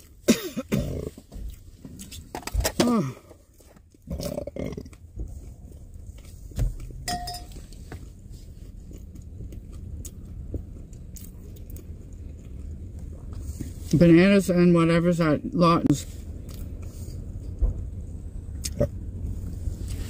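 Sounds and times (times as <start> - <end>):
truck cab low rumble: 0.0 - 20.0.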